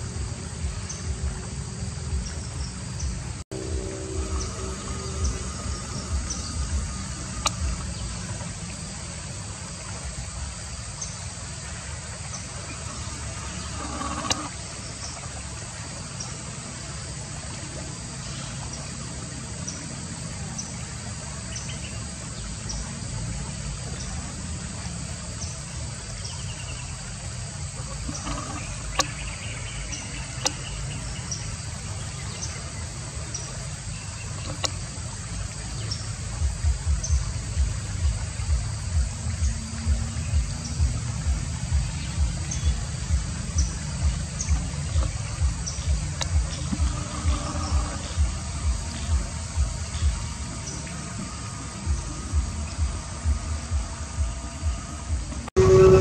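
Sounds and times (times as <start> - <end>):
high insect chirp: 0.0 - 56.0
steady low rumble: 0.0 - 56.0.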